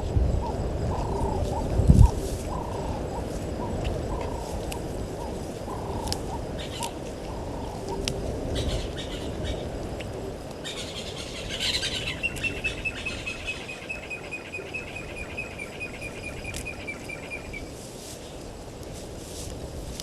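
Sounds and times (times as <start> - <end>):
low outdoor background noise: 0.0 - 20.0
bird calling: 0.4 - 17.7.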